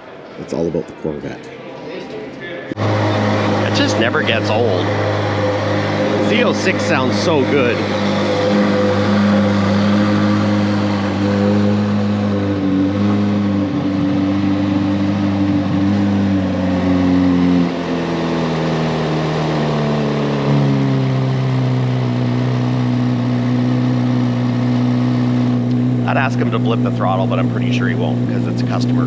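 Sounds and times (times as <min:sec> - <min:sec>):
car engine idling: 0:02.7 - 0:29.0.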